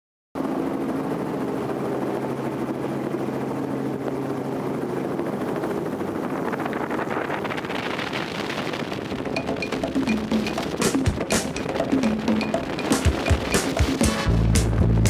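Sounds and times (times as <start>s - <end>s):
helicopter engine and rotor: 0.4s - 14.0s.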